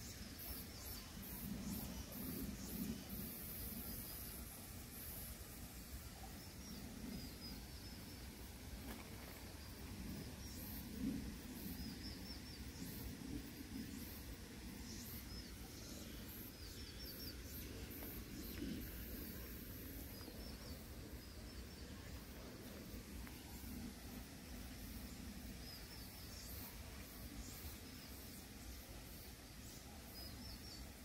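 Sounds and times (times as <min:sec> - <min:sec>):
low steady background noise: 0:00.0 - 0:31.0.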